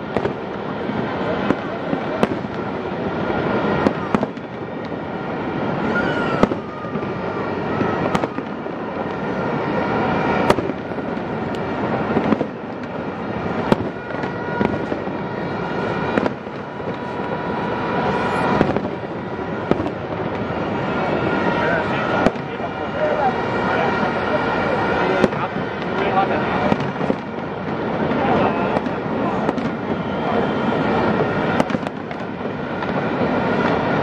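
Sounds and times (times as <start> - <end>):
fireworks bangs: 0.0 - 34.0
fireworks crackling rumble: 0.0 - 34.0
fireworks whistles: 0.0 - 34.0.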